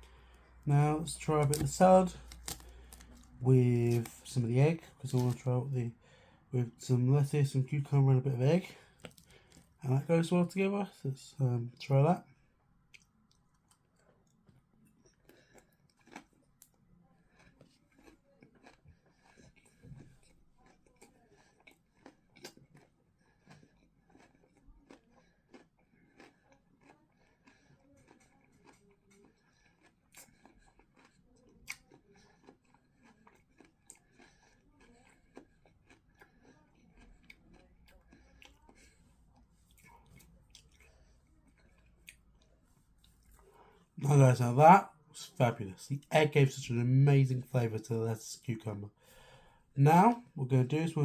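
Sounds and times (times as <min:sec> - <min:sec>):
chewing and crunching food: 0:00.0 - 0:51.0.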